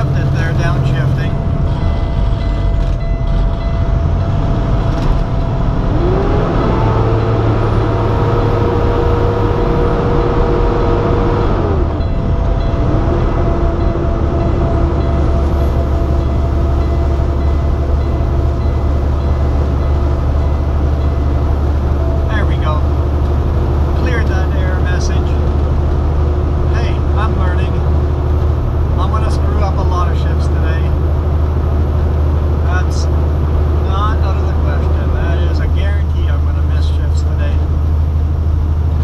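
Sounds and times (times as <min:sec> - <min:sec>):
truck engine and road noise: 0:00.0 - 0:39.0
whining tone: 0:00.0 - 0:39.0.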